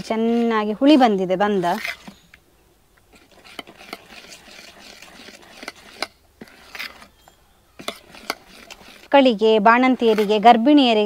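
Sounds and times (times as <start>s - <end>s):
spoon scraping batter in bowl: 0.0s - 2.4s, 3.0s - 11.0s.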